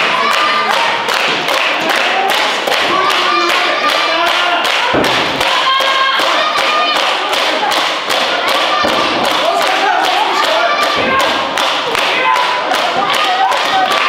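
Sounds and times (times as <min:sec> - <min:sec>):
quick rhythmic thuds: 0:00.0 - 0:14.0
voices shouting: 0:01.8 - 0:14.0.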